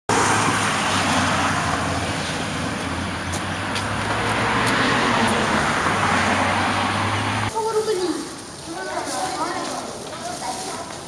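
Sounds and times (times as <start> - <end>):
road traffic noise: 0.1 - 11.0.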